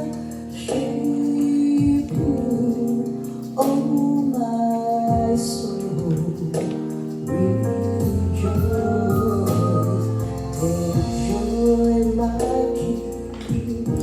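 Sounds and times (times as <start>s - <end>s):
instrumental backing: 0.0s - 14.0s.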